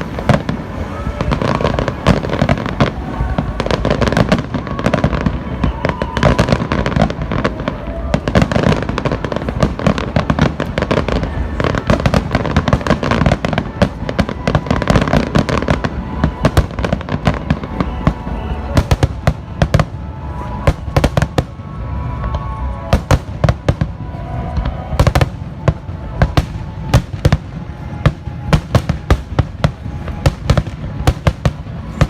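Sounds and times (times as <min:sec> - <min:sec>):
fireworks bursts and crackling: 0:00.0 - 0:32.0.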